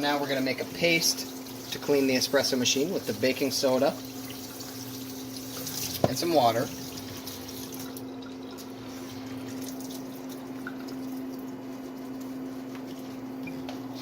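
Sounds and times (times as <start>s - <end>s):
water trickling into container: 0.3s - 13.0s.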